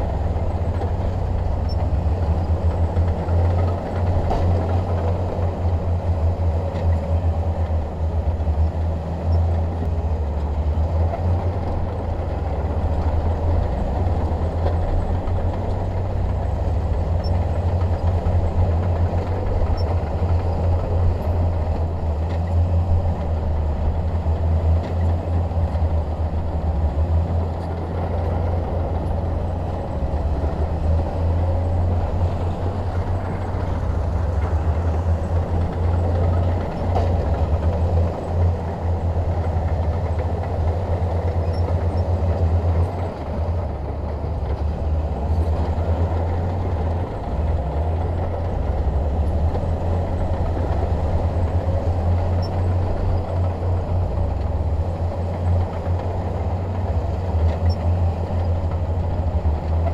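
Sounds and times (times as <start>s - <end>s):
bulldozer diesel engine drone: 0.0s - 59.9s.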